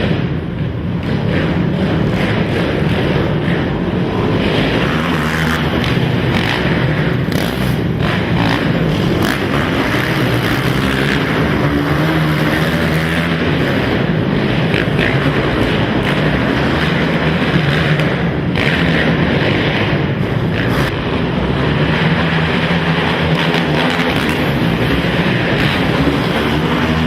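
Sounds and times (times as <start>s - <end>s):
quad engines revving: 0.0s - 27.0s.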